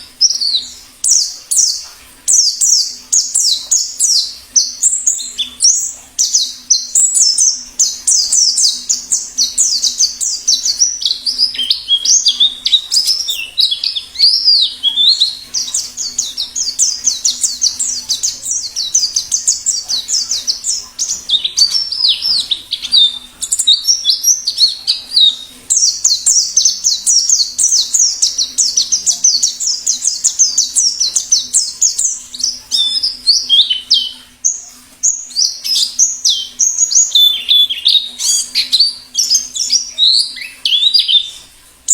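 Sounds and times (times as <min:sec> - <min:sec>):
bird twittering song: 0:00.0 - 0:41.9.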